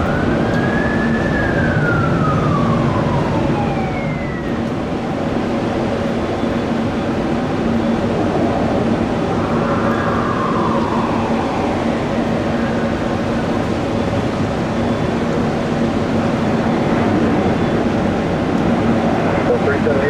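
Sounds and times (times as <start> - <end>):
engine whine falling in pitch: 0.0 - 5.7, 6.4 - 19.8
jet engines roaring: 0.0 - 20.0.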